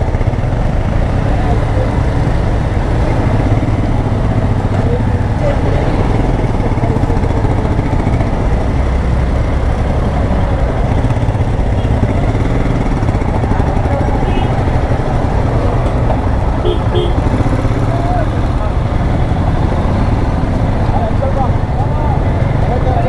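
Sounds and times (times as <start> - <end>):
motorcycle engines idling: 0.0 - 23.0.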